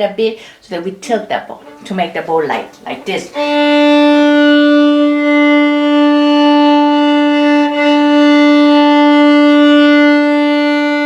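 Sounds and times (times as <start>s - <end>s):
violin sustained note: 1.6s - 11.0s.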